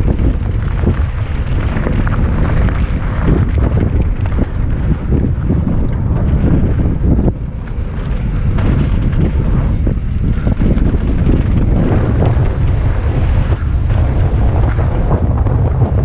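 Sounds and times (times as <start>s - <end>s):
bike rattles and knocks: 0.0s - 16.0s
wind buffeting microphone: 0.0s - 16.0s.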